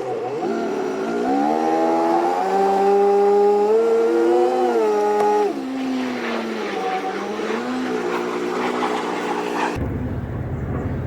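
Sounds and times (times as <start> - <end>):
outboard motor revving: 0.0 - 9.8.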